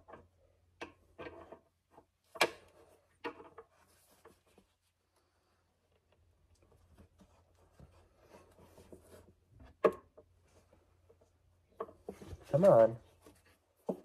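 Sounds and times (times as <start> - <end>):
rubbing and handling noises: 0.0 - 14.0.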